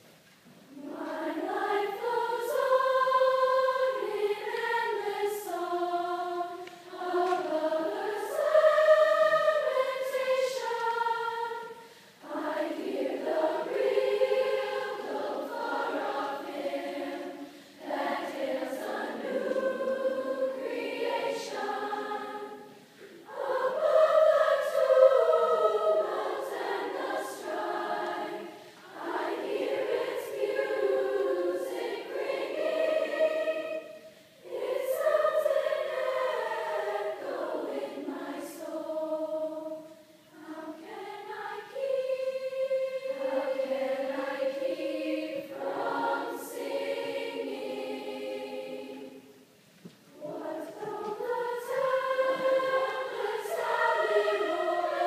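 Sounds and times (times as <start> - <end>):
girls' choir singing: 0.6 - 55.0.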